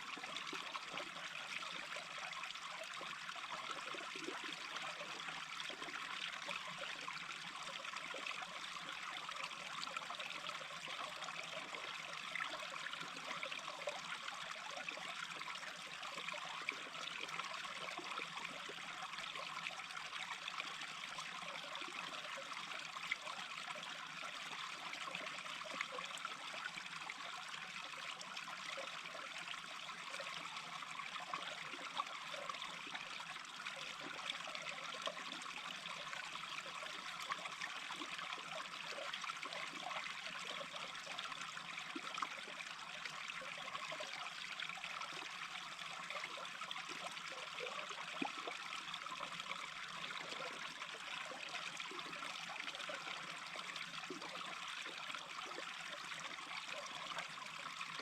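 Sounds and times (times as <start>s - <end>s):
brook babbling and trickling: 0.0s - 58.0s.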